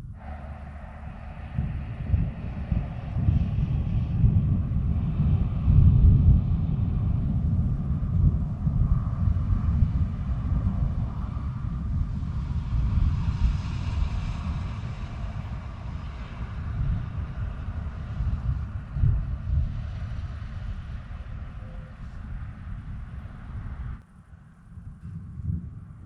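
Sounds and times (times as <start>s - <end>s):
thunderstorm rumbling: 0.0s - 24.0s.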